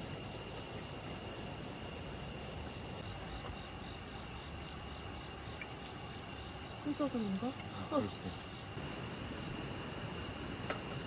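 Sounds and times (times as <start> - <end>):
insects chirping: 0.0 - 11.0
steady outdoor hiss: 0.0 - 11.0.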